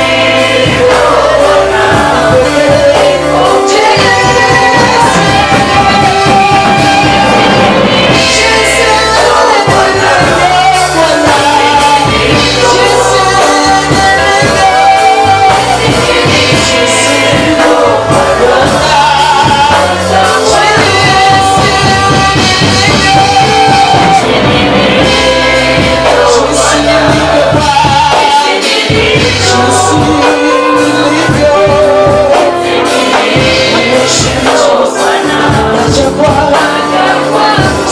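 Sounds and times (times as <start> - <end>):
instrumental accompaniment with bass: 0.0 - 37.9
voices singing worship song: 0.0 - 37.9.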